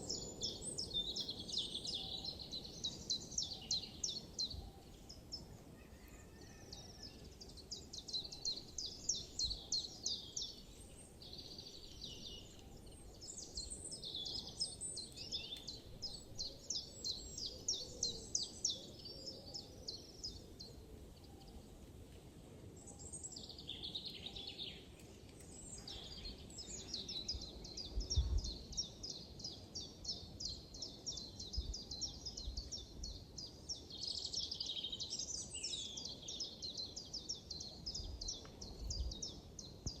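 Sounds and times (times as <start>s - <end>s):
songbirds chirping trills: 0.0s - 22.0s, 22.6s - 40.0s.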